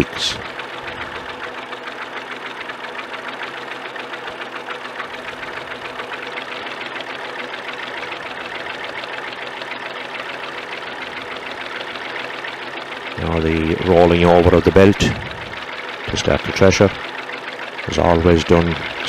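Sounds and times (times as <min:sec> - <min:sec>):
diesel tractor engine idling: 0:00.0 - 0:19.0.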